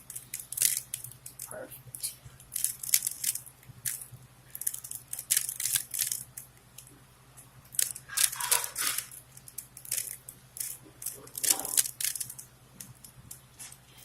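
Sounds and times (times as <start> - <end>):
puzzle cube clicking and clacking: 0.0 - 6.5, 7.7 - 13.4.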